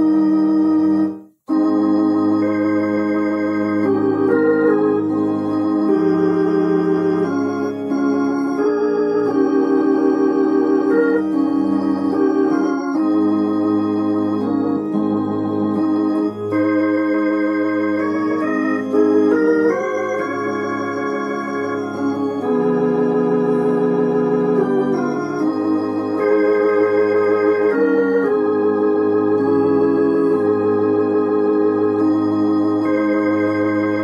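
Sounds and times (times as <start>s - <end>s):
hymn played on organ voice: 0.0s - 34.0s.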